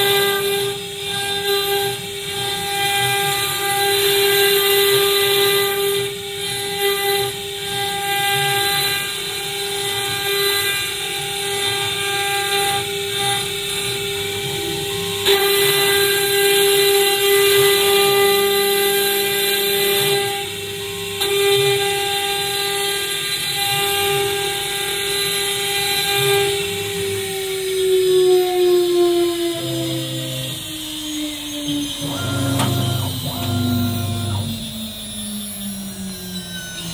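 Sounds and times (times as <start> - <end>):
cnc spindle high whine: 0.0 - 36.9.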